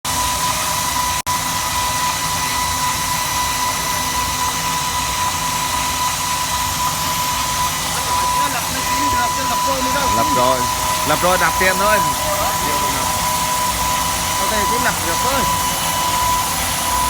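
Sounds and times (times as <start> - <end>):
concrete cutting machine whining: 0.1 - 17.0.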